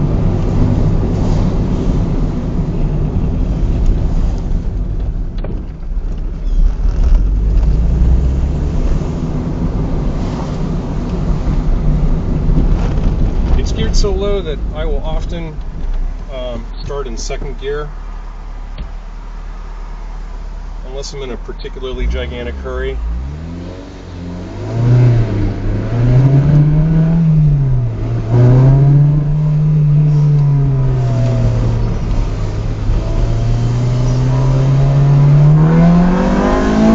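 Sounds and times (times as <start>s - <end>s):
car engine accelerating: 0.0s - 36.9s
road and wind noise: 0.0s - 36.9s.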